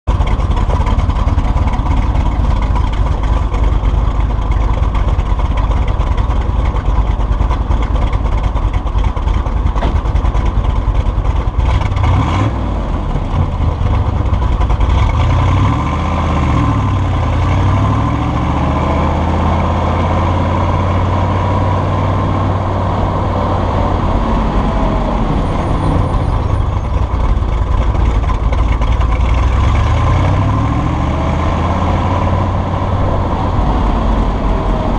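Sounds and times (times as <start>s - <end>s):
car engine revving: 0.1s - 34.9s.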